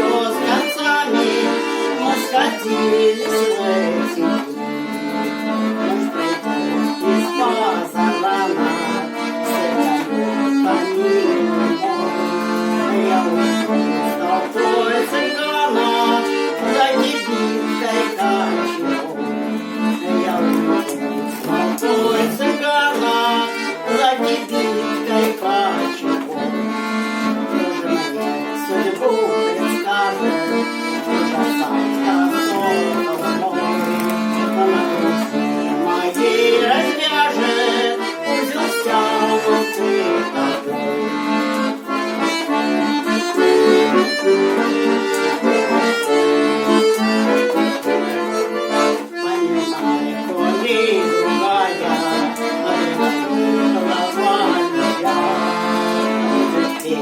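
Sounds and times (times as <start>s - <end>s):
button accordions playing: 0.0s - 57.0s.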